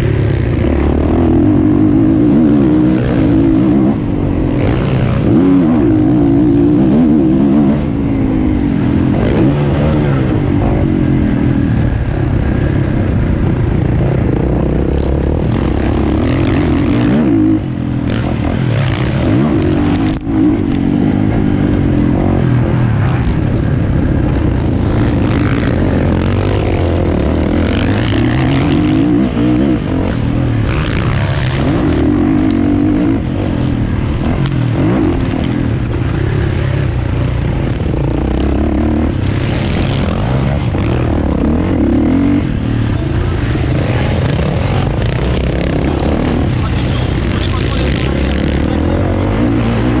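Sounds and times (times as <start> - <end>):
motocross bike engine revving: 0.0 - 50.0.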